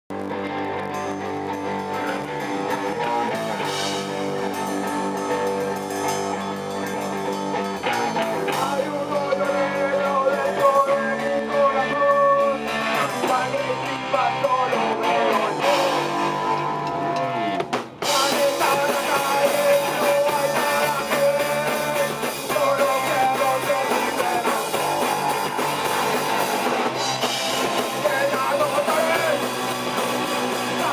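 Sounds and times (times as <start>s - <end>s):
garage rock guitar: 0.1s - 30.9s.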